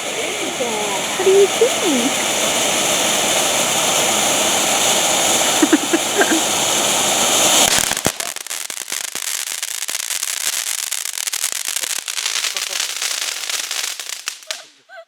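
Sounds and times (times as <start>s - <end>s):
firework crackling: 0.0s - 14.9s
firework fountain hissing: 0.0s - 14.9s.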